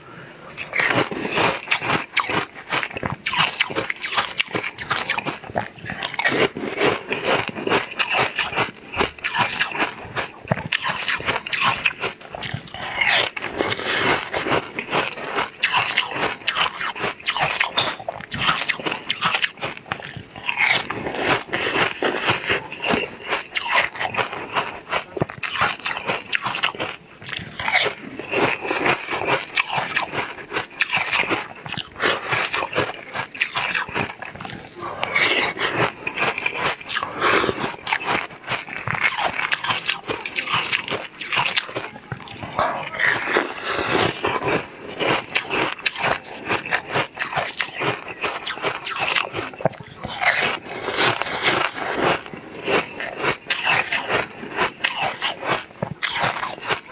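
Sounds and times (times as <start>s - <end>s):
wet chewing mouth sounds: 0.0s - 56.9s
crunching ice: 0.6s - 56.9s.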